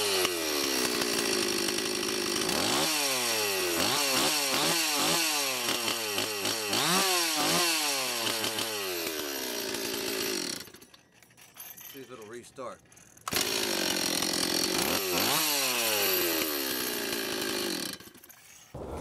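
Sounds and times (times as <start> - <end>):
chainsaw engine idling and revving: 0.0 - 10.9, 13.3 - 19.0.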